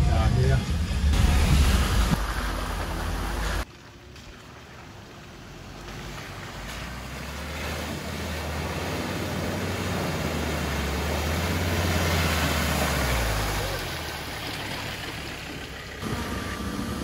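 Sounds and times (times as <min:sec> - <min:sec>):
vehicle engine driving: 0:00.0 - 0:17.0
tyres through muddy puddle: 0:01.0 - 0:17.0.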